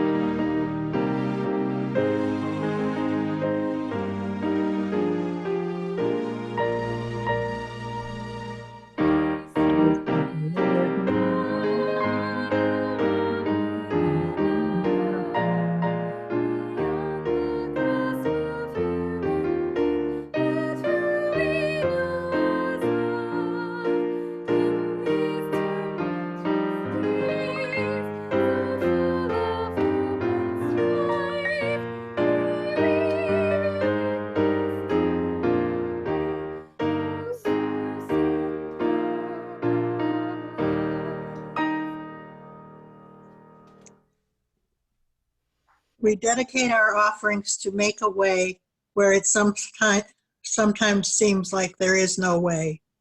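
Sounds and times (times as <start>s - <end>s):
slow piano piece: 0.0s - 44.0s.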